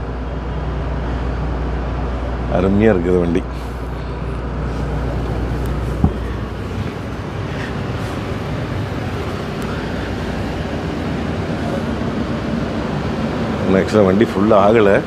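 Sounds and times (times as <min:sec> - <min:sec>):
coach cabin vehicle hum: 0:00.0 - 0:15.0.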